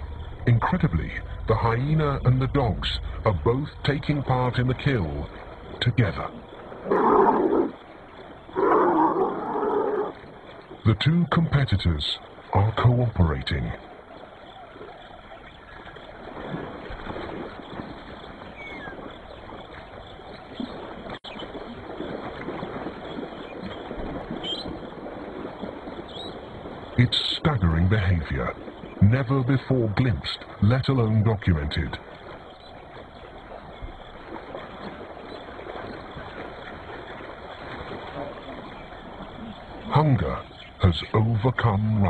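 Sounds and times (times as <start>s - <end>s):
shallow water sloshing: 0.0s - 42.0s.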